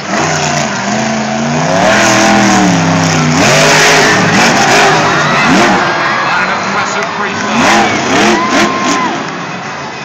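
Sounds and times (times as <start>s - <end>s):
truck engine revving hard: 0.0s - 9.6s.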